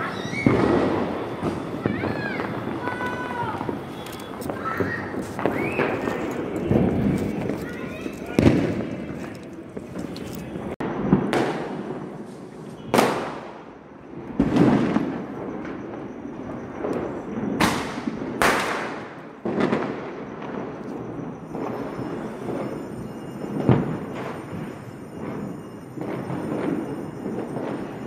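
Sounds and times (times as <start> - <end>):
distant firework bangs and crackle: 0.0 - 28.0
loud sharp firework bangs: 0.0 - 28.0.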